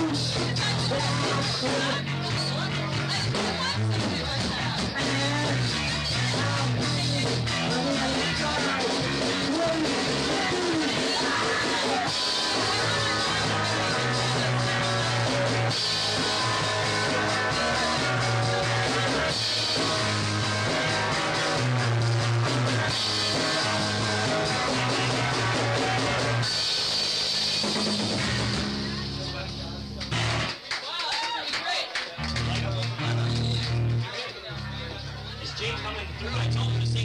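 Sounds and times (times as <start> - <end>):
bass guitar: 0.0 - 30.6, 32.2 - 37.0
drum kit: 0.0 - 30.6, 32.2 - 34.1
electric guitar: 0.0 - 30.6, 32.2 - 37.0.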